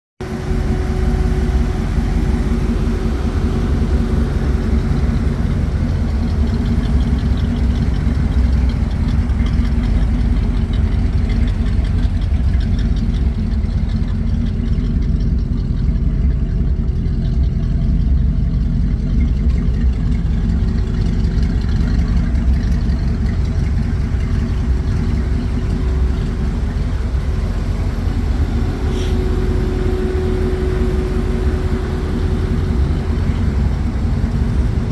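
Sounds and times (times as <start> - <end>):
truck engine idling: 0.2 - 34.9.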